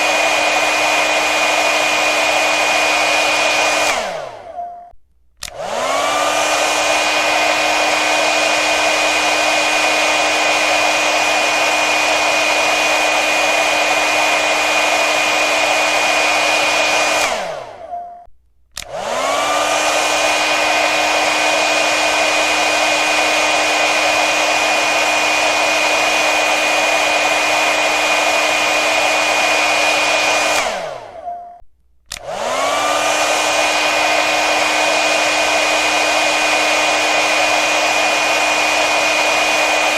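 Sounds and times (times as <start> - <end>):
hair dryer running: 0.0 - 4.6, 5.4 - 18.0, 18.8 - 31.3, 32.1 - 39.9.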